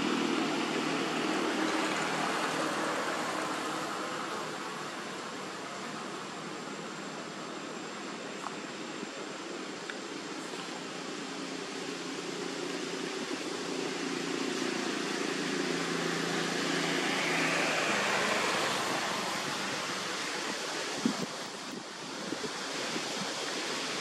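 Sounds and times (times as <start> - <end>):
low engine-like hum: 0.0 - 24.0
wind through leafy trees: 0.0 - 24.0.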